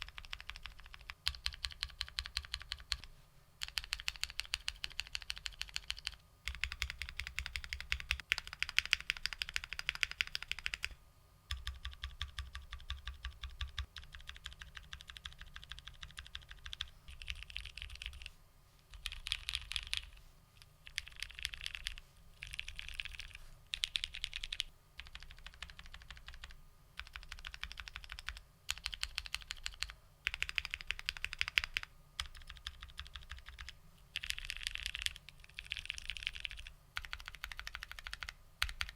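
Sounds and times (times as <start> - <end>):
mechanical keyboard typing: 0.0 - 18.3, 18.9 - 38.9.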